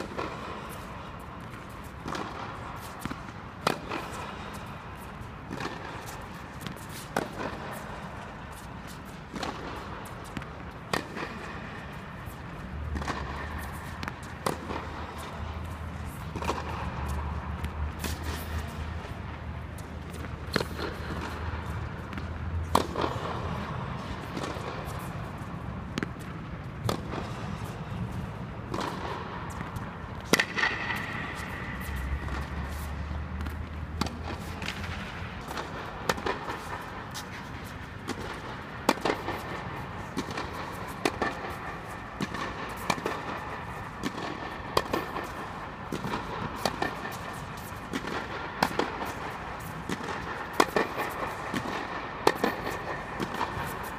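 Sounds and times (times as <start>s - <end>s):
tennis balls struck by rackets: 0.0s - 53.9s.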